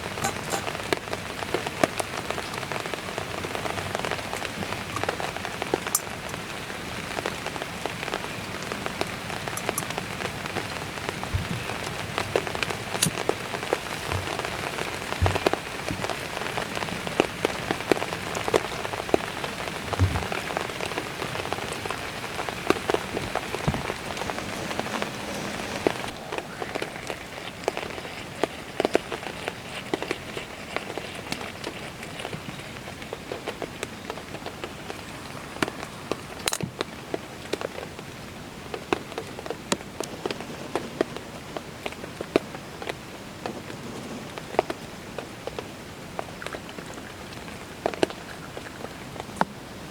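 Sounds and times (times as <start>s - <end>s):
close raindrop hits: 0.0s - 49.6s
steady rain hiss: 0.0s - 49.9s.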